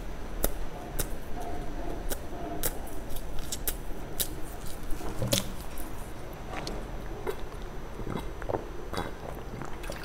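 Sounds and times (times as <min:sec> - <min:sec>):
chewing cake: 0:00.4 - 0:10.0.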